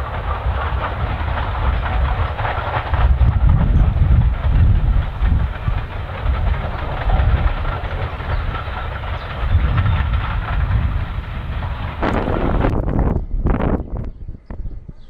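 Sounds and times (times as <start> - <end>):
steam train rumbling past: 0.0 - 14.0
wheels rattling on rails: 0.0 - 14.1.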